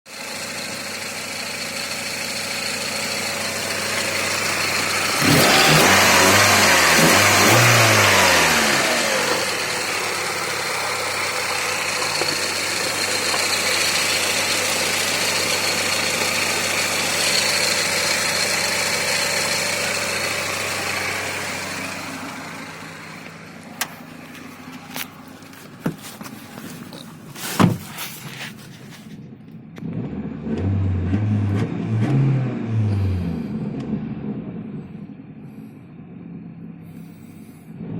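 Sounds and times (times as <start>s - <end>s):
car engine revving: 2.2s - 28.6s, 29.8s - 37.9s.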